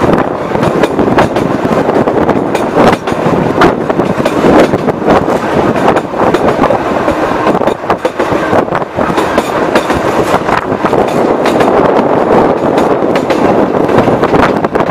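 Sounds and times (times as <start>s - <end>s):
wheels rumbling on rails: 0.0s - 14.9s.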